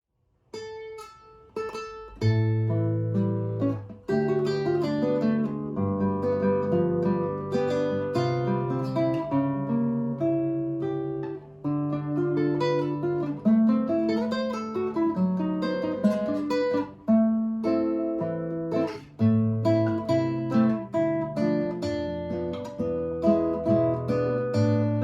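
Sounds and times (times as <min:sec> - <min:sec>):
fingerpicked acoustic guitar melody: 0:00.5 - 0:25.0.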